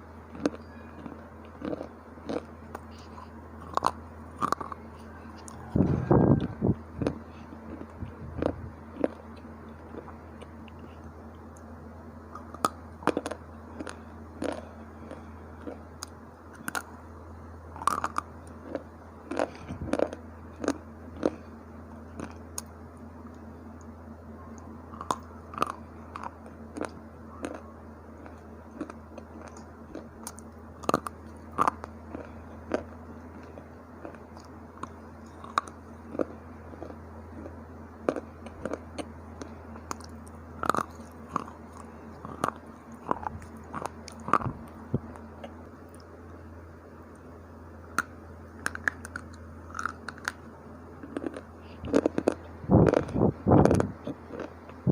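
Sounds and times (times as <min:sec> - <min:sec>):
chewing hard crunchy chips: 0:00.3 - 0:17.0, 0:17.7 - 0:23.9, 0:24.5 - 0:46.4, 0:47.9 - 0:54.8.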